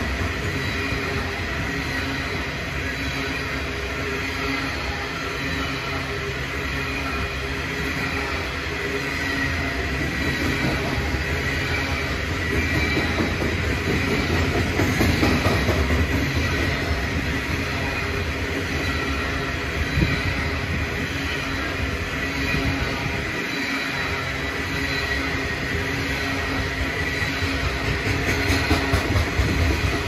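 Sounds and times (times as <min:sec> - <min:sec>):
steel wheels rumbling on rails: 0:00.0 - 0:30.0.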